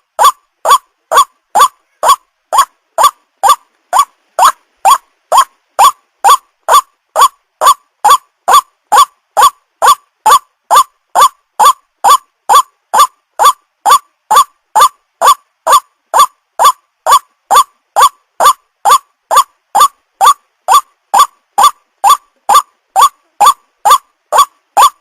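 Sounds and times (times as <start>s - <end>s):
bird calling harsh notes: 0.0s - 25.0s.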